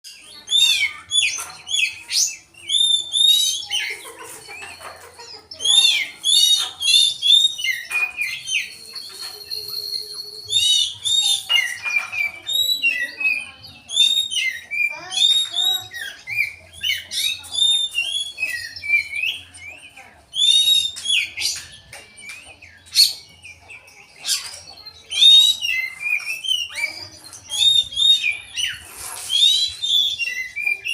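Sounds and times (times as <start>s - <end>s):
songbird singing whistled notes: 0.0s - 30.9s.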